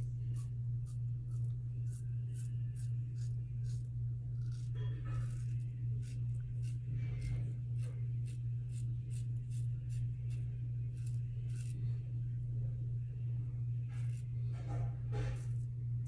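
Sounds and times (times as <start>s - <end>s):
razor scraping stubble: 0.0s - 12.0s, 13.8s - 16.0s
low electrical hum: 0.0s - 16.0s.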